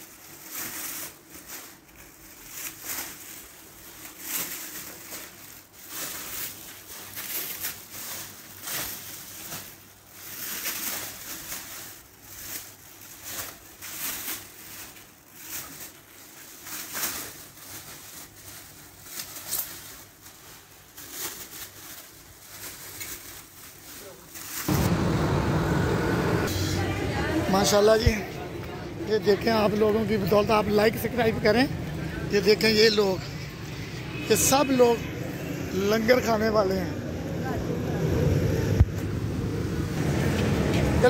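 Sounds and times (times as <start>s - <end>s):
plastic bags rustling: 0.0s - 25.7s, 26.4s - 37.6s.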